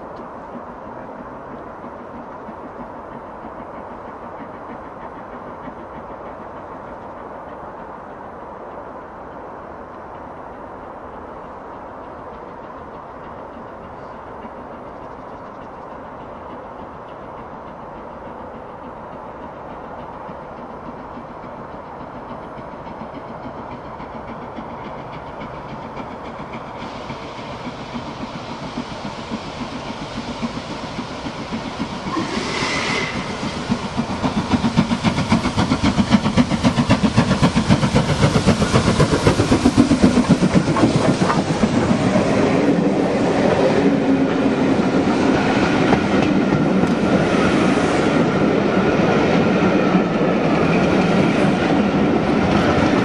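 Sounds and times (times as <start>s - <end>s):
steam locomotive approaching: 0.0s - 53.0s.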